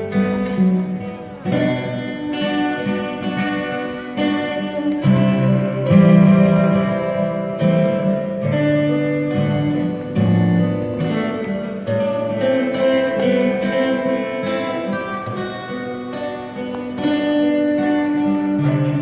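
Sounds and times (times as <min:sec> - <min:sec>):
acoustic guitars strumming: 0:00.0 - 0:19.0.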